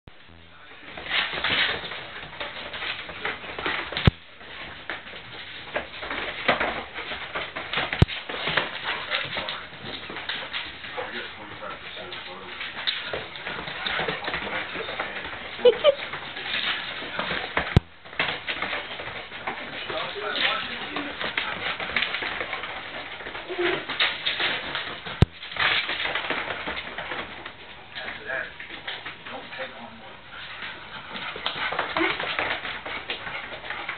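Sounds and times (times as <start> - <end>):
claws scrabbling on hard floor: 0.3 - 29.7, 30.3 - 33.9.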